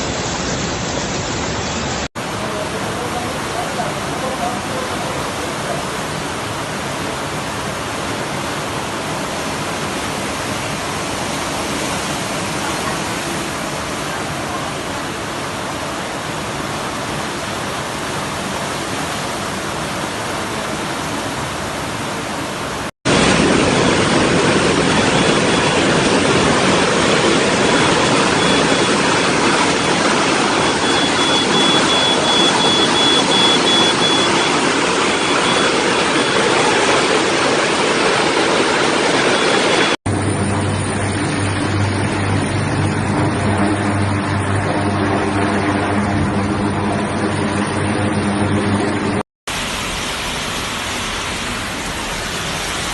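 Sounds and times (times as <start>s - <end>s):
floodwater rushing: 0.0s - 52.9s.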